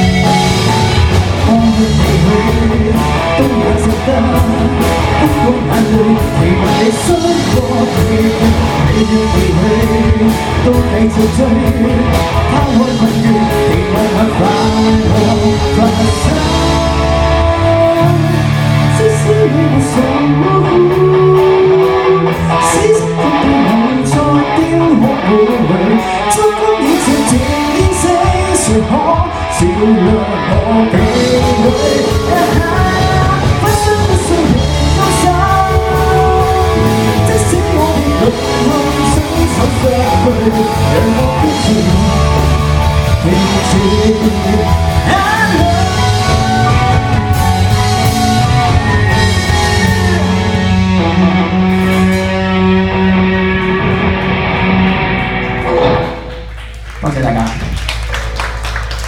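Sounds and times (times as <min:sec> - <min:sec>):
person singing: 0:00.0 - 0:54.2
bass guitar: 0:00.0 - 0:59.0
drum kit: 0:00.0 - 0:59.0
electric guitar: 0:00.0 - 0:59.0.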